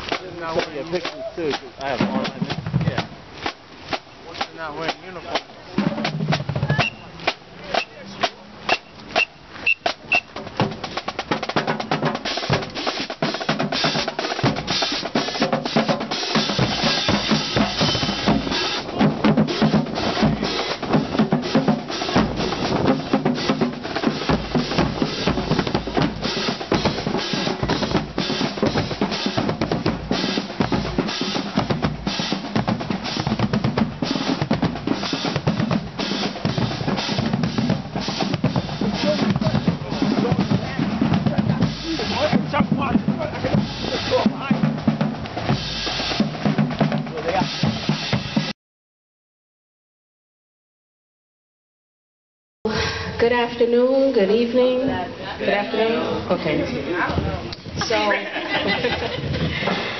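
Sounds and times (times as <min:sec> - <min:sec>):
marching drumline playing: 0:00.0 - 0:48.5, 0:53.2 - 0:59.9.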